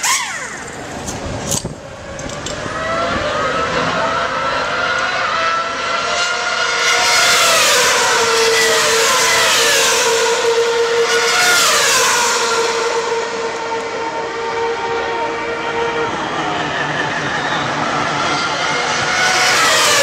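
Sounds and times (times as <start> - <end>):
race cars passing at high revs: 0.0 - 20.0.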